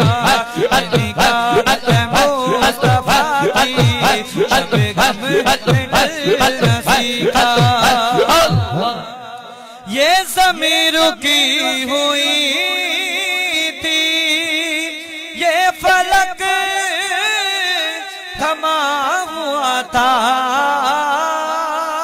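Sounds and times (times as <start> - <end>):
person singing devotional song: 0.0 - 22.0.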